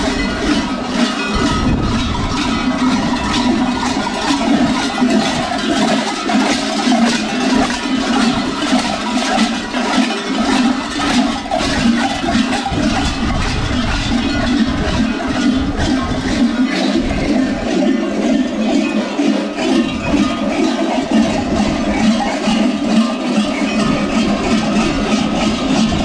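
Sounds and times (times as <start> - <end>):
large goat bells clanging: 0.0 - 26.0.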